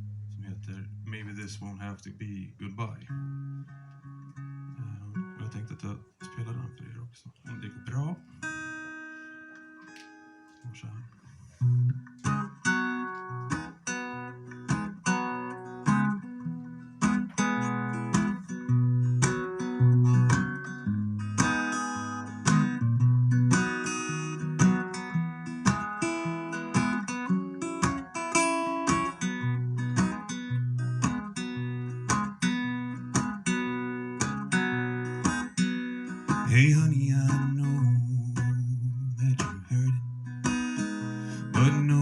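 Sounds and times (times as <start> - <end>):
acoustic guitar strumming: 0.0 - 6.8, 7.4 - 42.0.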